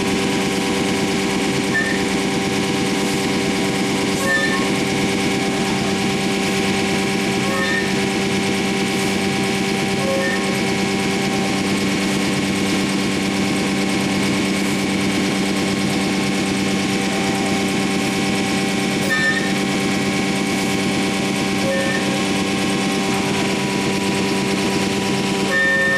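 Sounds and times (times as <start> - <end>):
cnc router machine hum: 0.0 - 25.9.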